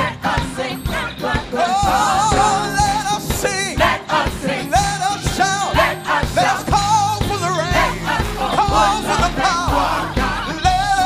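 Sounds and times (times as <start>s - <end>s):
bass: 0.0s - 11.0s
gospel choir singing: 0.0s - 11.0s
drum beat: 0.3s - 11.0s.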